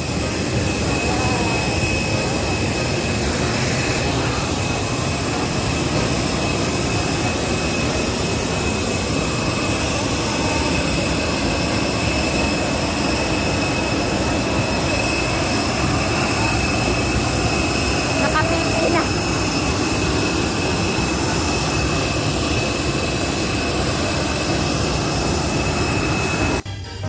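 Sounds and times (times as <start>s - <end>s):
jet engines rumbling: 0.0s - 26.7s
high-pitched engine whine: 0.0s - 27.0s.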